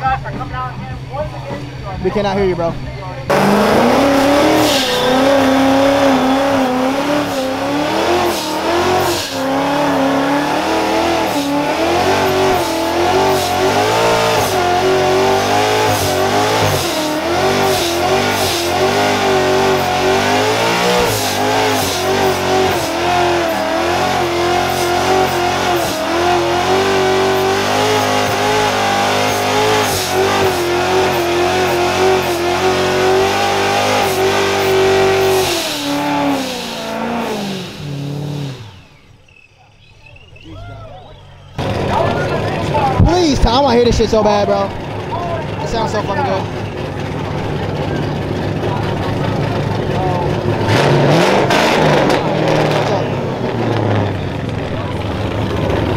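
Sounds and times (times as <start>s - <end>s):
car engine at high revs: 0.0s - 39.4s, 41.4s - 55.9s.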